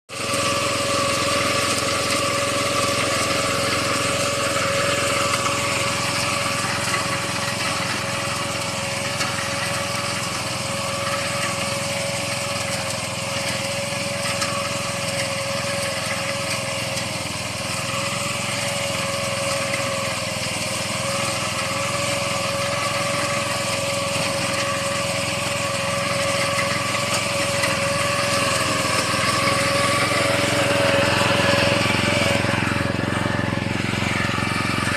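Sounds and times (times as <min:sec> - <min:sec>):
small engine whining: 0:00.1 - 0:34.9.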